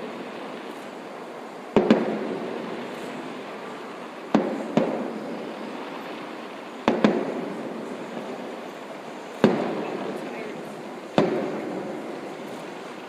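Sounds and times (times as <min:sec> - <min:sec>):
fireworks booming with echo: 0:00.0 - 0:13.0
steady background noise: 0:00.0 - 0:13.0.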